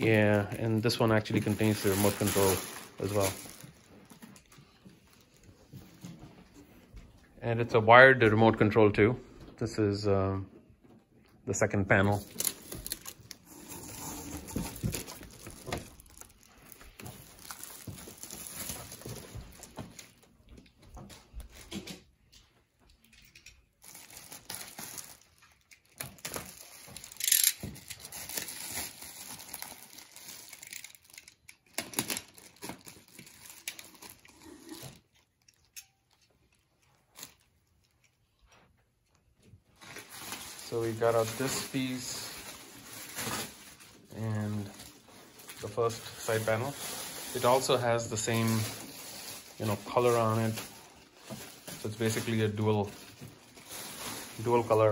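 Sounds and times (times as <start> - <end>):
packing material crinkling: 0.0 - 5.6, 11.9 - 20.6, 23.6 - 38.5, 39.1 - 54.9.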